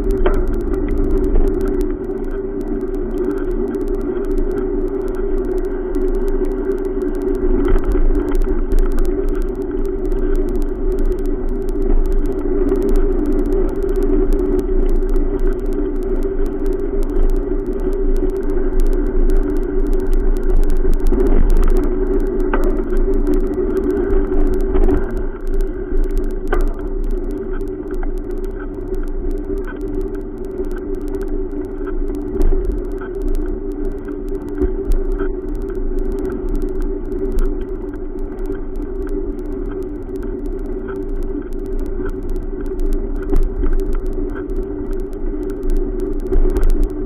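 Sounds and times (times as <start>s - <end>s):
faint clicks: 0.0s - 47.0s.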